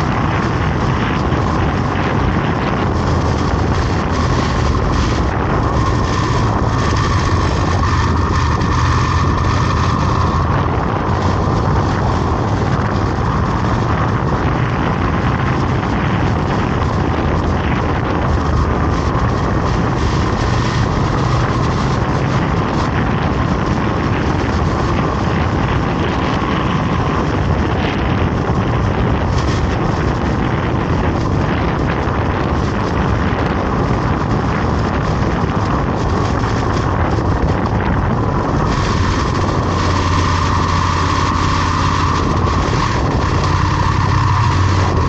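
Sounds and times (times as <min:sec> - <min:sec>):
vehicle engine running: 0:00.0 - 0:45.0
wind rushing on microphone: 0:00.0 - 0:45.0.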